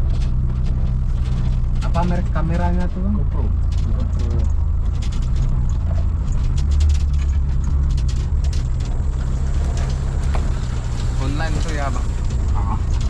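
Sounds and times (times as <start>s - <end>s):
low engine drone: 0.0s - 13.0s
vehicle knocking over ruts: 0.0s - 13.0s.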